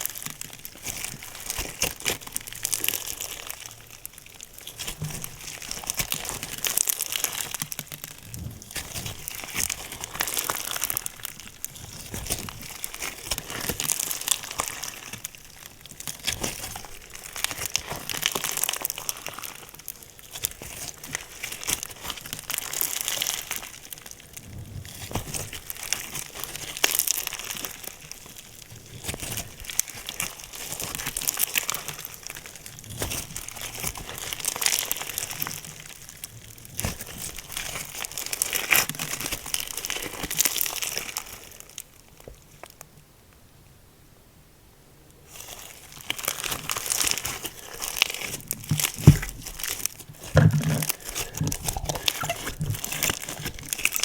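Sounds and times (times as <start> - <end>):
slime crackling and popping: 0.0 - 42.8, 45.3 - 54.0.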